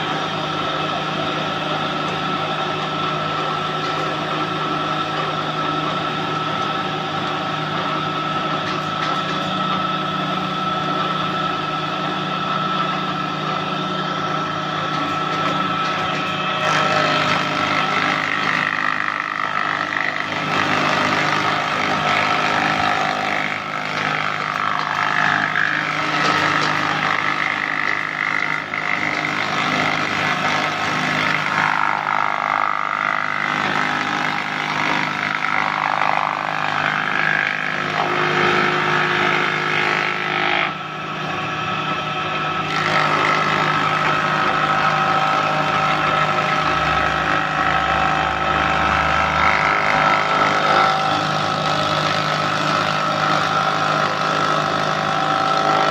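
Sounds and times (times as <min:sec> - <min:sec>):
electric wood planer running: 0:00.0 - 0:55.9.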